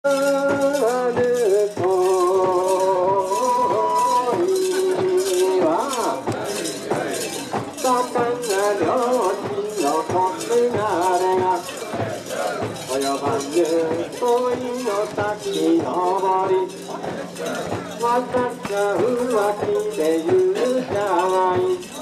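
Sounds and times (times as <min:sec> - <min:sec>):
rhythmic metallic jingling: 0:00.0 - 0:22.0.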